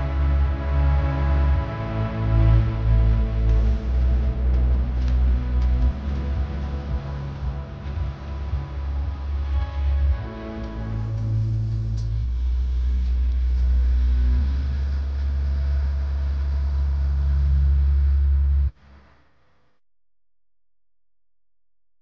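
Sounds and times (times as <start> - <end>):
deep synth chords: 0.0 - 18.8.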